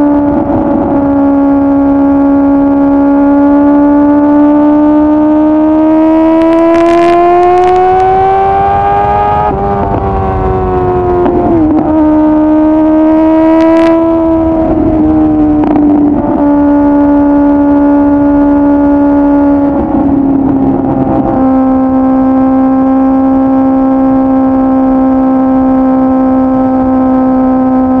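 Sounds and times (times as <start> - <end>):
motorcycle engine at high revs: 0.0 - 28.0.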